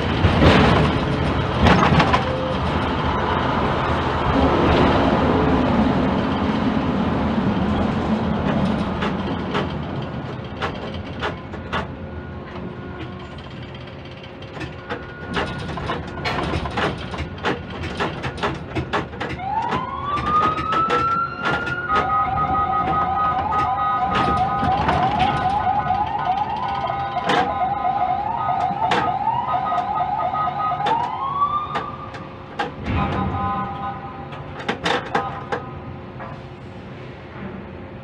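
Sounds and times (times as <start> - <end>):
crane clicks and knocks: 0.0 - 5.1, 7.4 - 36.5
crane machinery whining: 0.0 - 38.0.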